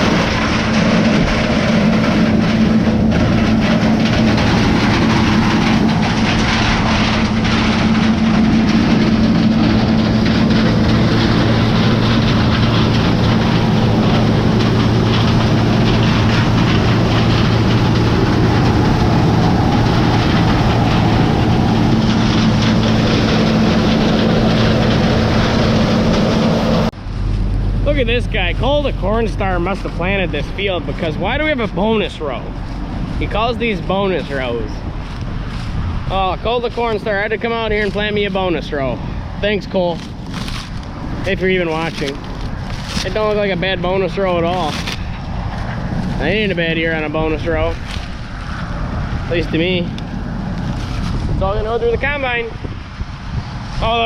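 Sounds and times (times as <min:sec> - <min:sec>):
diesel farm machinery droning: 0:00.0 - 0:54.0.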